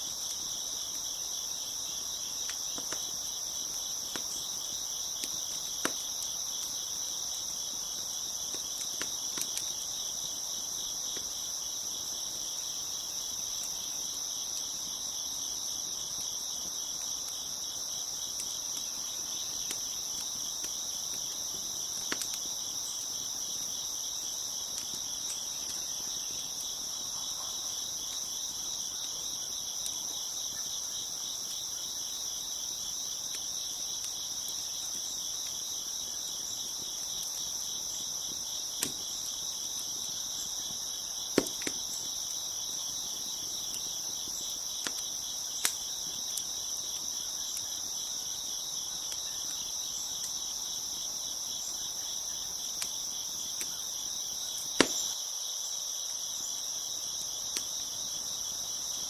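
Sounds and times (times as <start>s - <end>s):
wood fire popping: 0.0s - 51.1s, 54.5s - 55.2s
crickets chirping: 0.0s - 59.0s.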